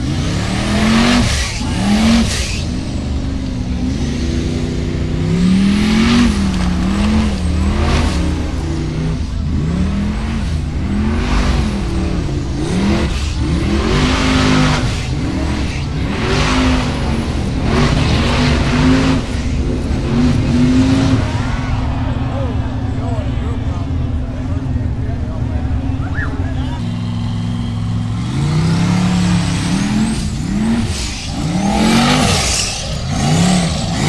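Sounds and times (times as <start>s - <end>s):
engine revving hard: 0.0s - 22.2s, 26.8s - 34.0s.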